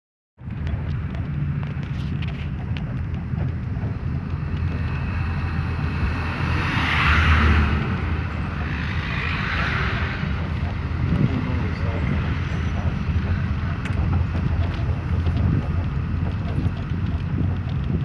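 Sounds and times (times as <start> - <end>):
bus engine and road rumble: 0.4 - 18.0
sharp rattles: 0.4 - 18.0.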